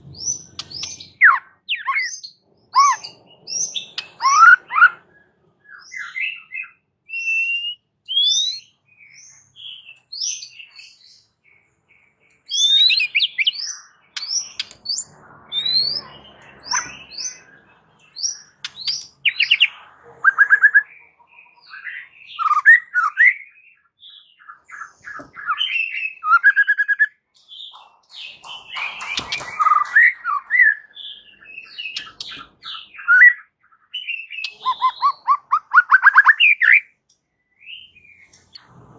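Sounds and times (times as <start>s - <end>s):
bird singing whistles and trills: 0.1s - 38.6s.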